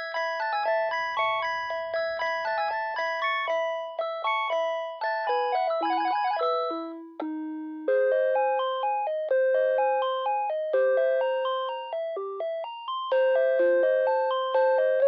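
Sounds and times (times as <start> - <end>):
phone melody ringtone: 0.0 - 15.0.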